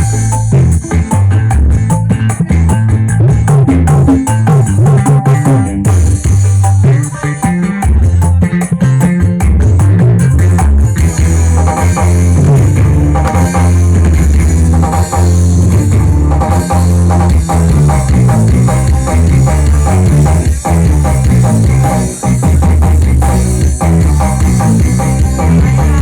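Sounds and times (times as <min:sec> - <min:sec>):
loud music with guitar and drums: 0:00.0 - 0:26.0.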